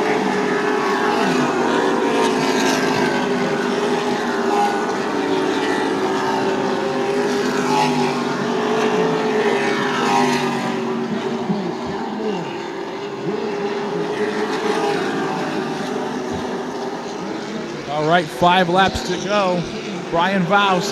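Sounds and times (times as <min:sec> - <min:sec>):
race truck engines at speed: 0:00.0 - 0:20.9
trucks passing by: 0:00.0 - 0:20.9.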